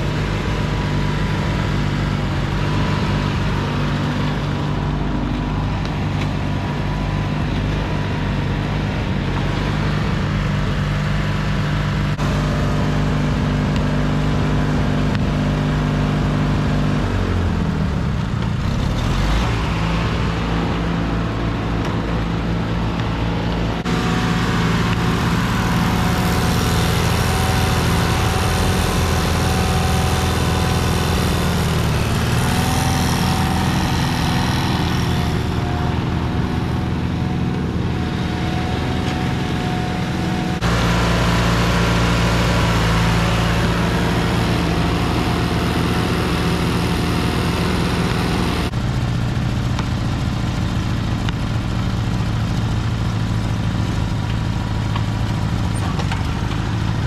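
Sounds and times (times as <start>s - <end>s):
garden tractor engines running: 0.0s - 57.0s.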